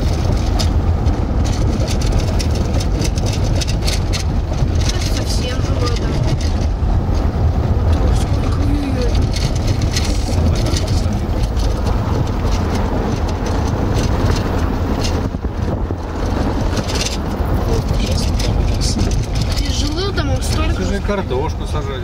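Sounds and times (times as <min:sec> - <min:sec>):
engine and tyre rumble: 0:00.0 - 0:22.0.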